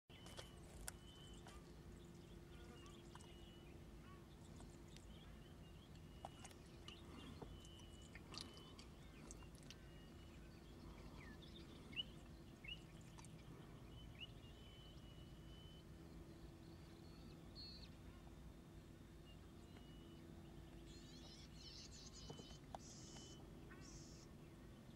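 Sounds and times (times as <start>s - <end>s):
faint bird chirps: 0.1s - 18.6s, 19.2s - 24.4s
low steady hum: 0.1s - 24.9s.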